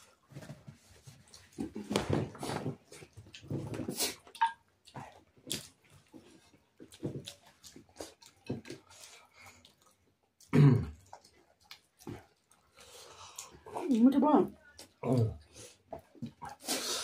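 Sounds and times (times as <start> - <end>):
chewing and lip smacks: 0.0 - 17.0.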